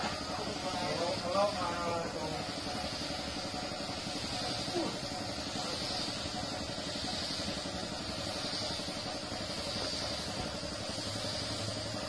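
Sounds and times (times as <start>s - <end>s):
spray gun hissing: 0.0s - 12.0s
steady motor drone: 0.0s - 12.0s.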